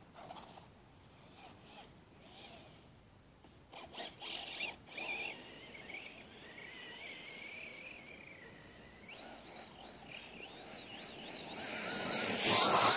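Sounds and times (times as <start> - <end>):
rc car electric motor whine: 0.2 - 0.6, 1.2 - 2.8, 3.7 - 12.9.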